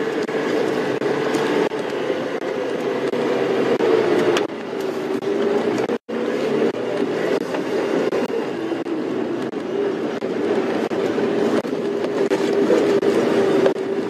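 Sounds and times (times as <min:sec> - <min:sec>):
rattling and road noise: 0:00.0 - 0:14.0
vehicle engine drone: 0:00.0 - 0:14.0.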